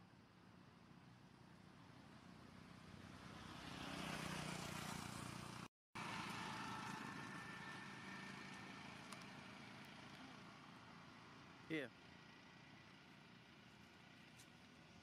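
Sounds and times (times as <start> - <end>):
road vehicle passing: 2.5 - 15.0.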